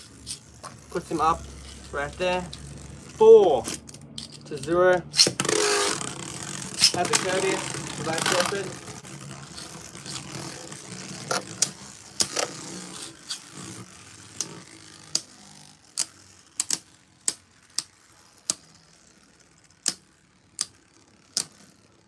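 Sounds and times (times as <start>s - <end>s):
faint whir of spinning tops: 0.0s - 22.0s
spinning tops clacking together: 0.0s - 22.0s.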